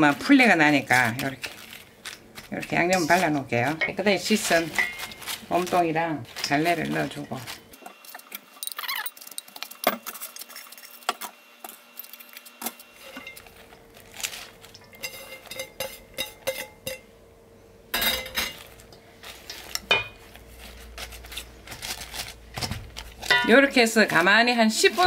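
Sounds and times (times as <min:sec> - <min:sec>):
vegetables rustling in metal bowl: 0:00.0 - 0:17.0, 0:18.0 - 0:25.0.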